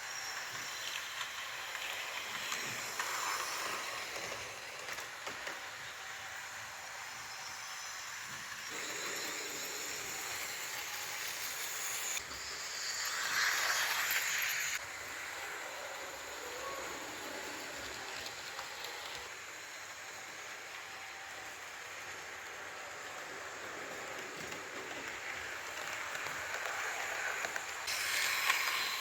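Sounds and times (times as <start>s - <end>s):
model train whirring on track: 0.0s - 29.0s.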